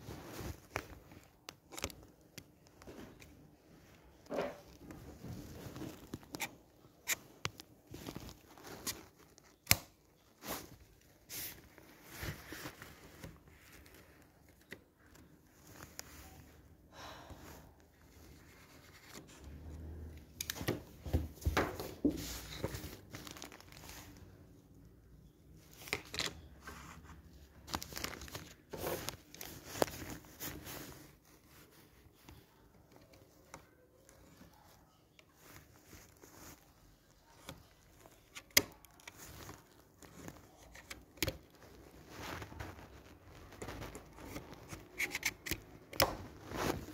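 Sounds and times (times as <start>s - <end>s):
crinkling and tearing: 0.0s - 3.4s, 4.6s - 16.5s, 17.9s - 21.0s, 22.3s - 24.5s, 25.6s - 46.9s.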